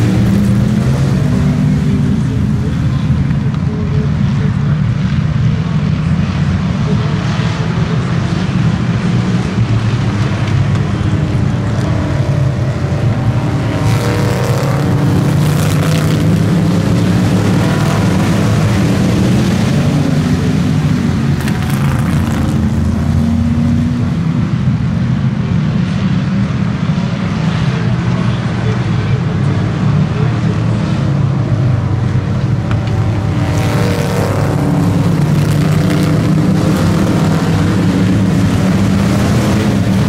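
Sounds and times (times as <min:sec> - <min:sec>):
race car engines droning: 0:00.0 - 0:40.0.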